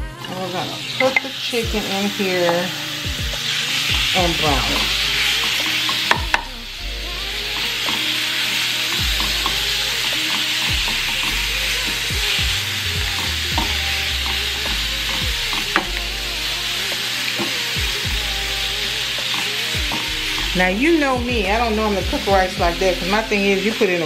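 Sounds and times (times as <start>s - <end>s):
chicken sizzling in a frying pan: 0.0s - 24.0s.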